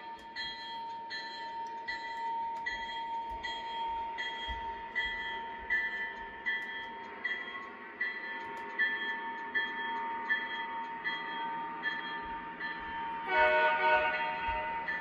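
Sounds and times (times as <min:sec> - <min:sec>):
model train high whine: 0:00.0 - 0:15.0.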